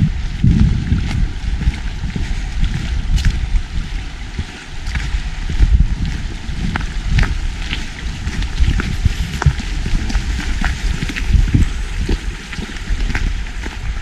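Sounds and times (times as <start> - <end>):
footsteps on woodland path: 0.0 - 14.0
wind buffeting microphone: 0.0 - 14.0.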